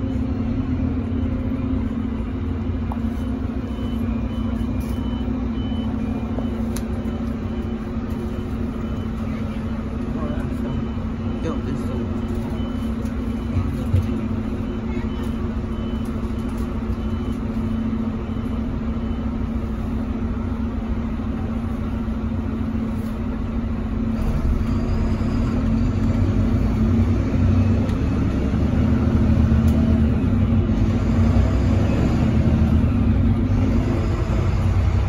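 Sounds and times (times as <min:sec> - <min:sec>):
bus engine humming: 0:00.0 - 0:35.0.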